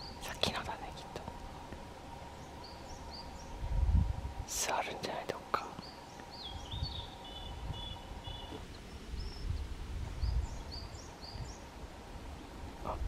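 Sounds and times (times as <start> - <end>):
small birds chirping: 0.0 - 3.8, 4.5 - 13.0.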